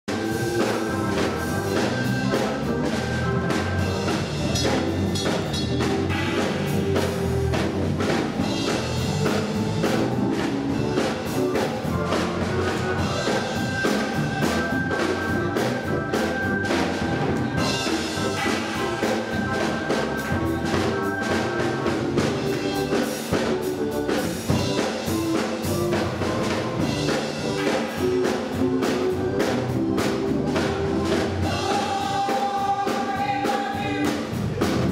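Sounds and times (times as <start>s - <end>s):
church band playing: 0.1s - 34.9s
drum kit steady beat: 0.1s - 34.9s.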